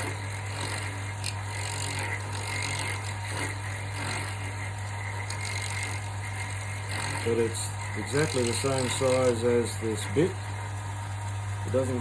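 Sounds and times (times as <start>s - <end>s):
drill bit scraping wood: 0.0s - 10.7s
wood lathe humming: 0.0s - 12.0s.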